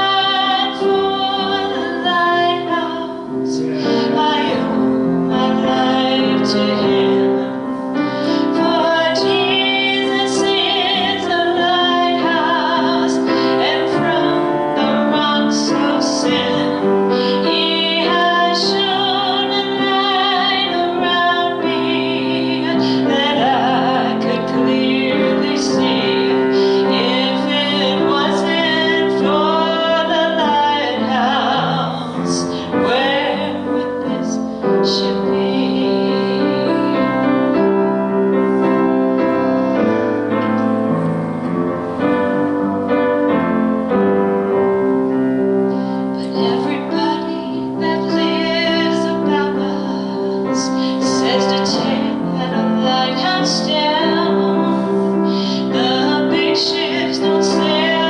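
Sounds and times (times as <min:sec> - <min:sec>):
woman singing gospel with vibrato: 0:00.0 - 0:37.1, 0:46.1 - 0:58.0
piano accompaniment: 0:00.0 - 0:58.0.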